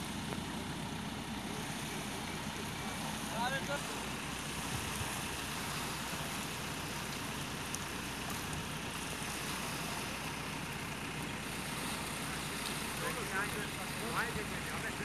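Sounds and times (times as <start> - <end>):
low engine hum: 0.0 - 15.0
shallow sea water: 0.0 - 15.0.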